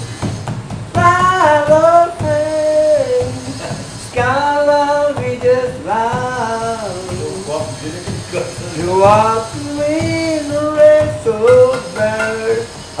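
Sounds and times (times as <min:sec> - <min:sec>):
high voice singing: 0:01.0 - 0:07.6, 0:08.8 - 0:13.0.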